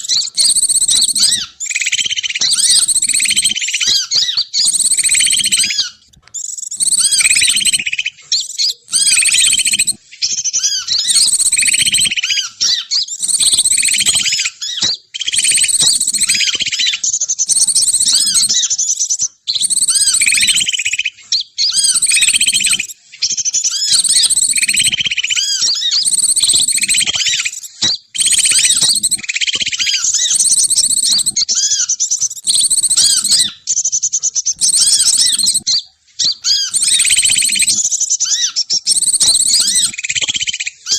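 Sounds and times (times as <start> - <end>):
small birds chirping rapidly: 0.0 - 40.9.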